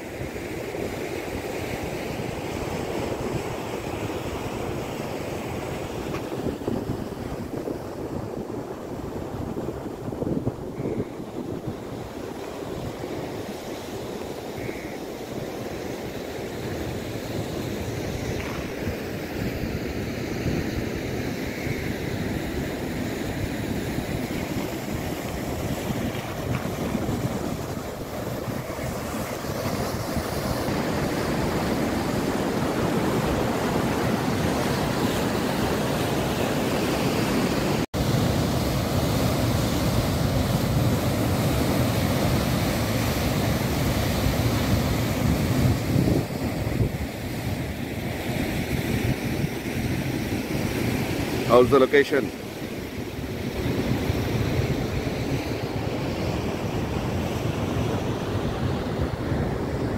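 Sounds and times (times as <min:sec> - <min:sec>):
wind on microphone: 0:00.1 - 0:51.5, 0:52.6 - 0:59.9.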